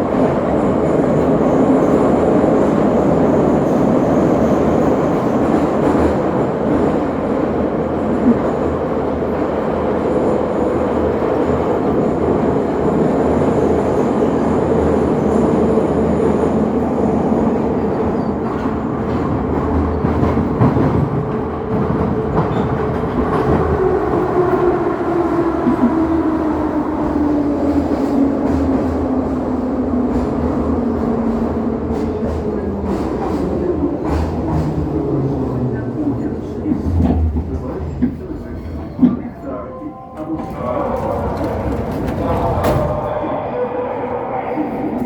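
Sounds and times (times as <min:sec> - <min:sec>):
train rumbling on rails: 0:00.0 - 0:45.0.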